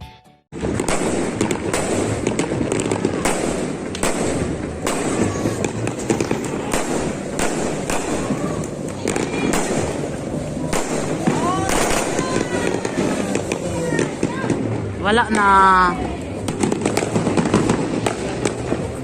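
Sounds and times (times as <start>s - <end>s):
fireworks bangs and crackles: 0.5s - 19.0s.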